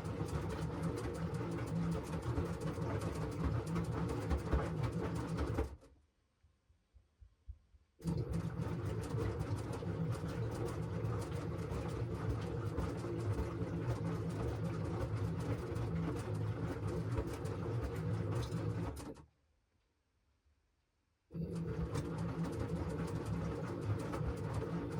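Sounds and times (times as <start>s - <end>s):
washing machine motor hum: 0.0s - 5.8s, 8.0s - 19.2s, 21.3s - 24.9s.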